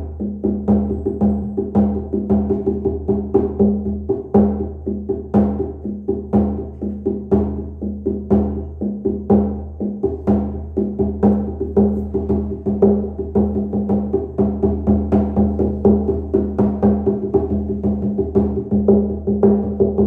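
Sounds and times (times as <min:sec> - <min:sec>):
frame drum beating: 0:00.0 - 0:20.0.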